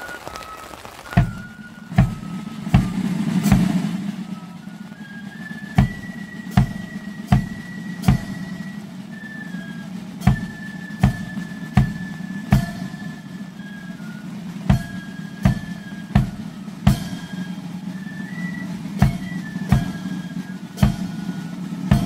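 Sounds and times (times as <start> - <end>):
flute melody: 0.0 - 22.0
side drums: 0.0 - 22.0
bass drum and cymbals striking: 1.2 - 13.4, 14.2 - 22.0.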